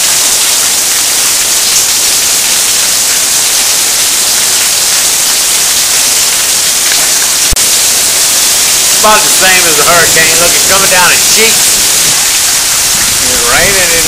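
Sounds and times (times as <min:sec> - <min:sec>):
heavy rain hissing: 0:00.0 - 0:14.0
water pouring off roof: 0:00.0 - 0:14.0.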